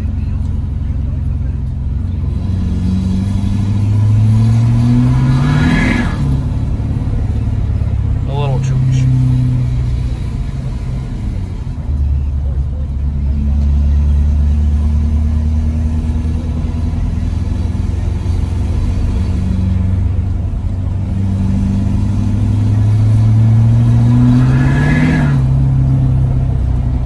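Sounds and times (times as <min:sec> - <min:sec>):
diesel truck engine accelerating: 0:00.0 - 0:27.0.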